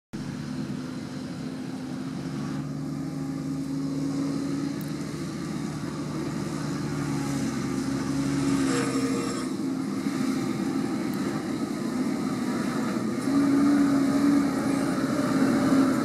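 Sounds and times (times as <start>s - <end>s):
tractor diesel engine under load: 0.1s - 16.0s.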